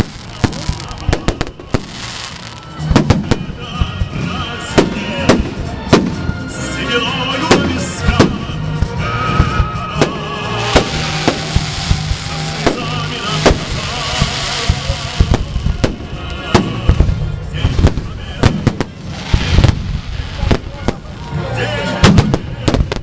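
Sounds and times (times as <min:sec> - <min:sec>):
fireworks sharp bangs: 0:00.0 - 0:06.5, 0:07.4 - 0:23.0
fireworks crackling hiss: 0:00.0 - 0:23.0
music playing: 0:00.0 - 0:23.0.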